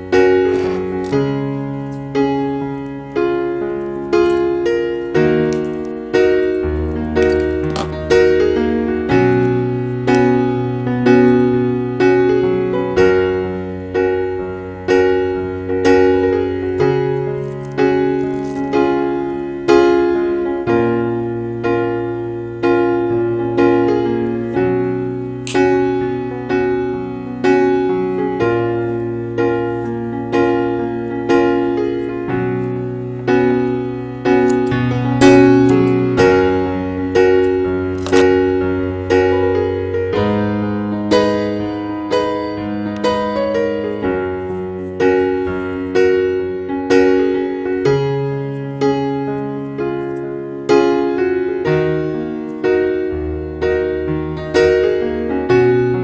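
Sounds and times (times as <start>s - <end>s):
gentle piano music: 0.0s - 56.0s.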